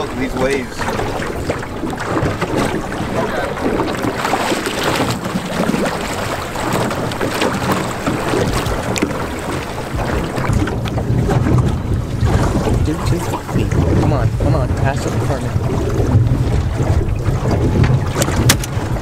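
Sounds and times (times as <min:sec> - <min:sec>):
waves splashing against boat hull: 0:00.0 - 0:19.0
wind rushing over microphone: 0:00.0 - 0:19.0.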